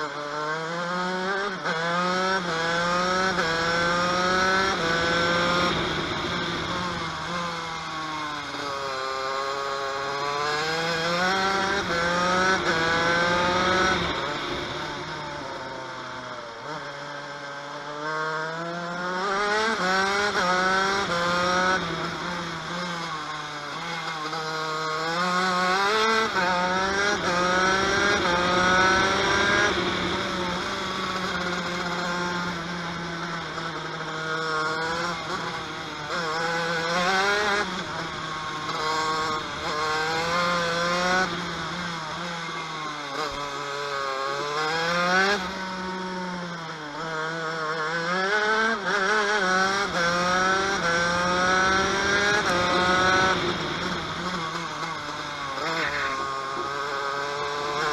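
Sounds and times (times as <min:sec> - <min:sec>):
kart engine revving: 0:00.0 - 0:57.9.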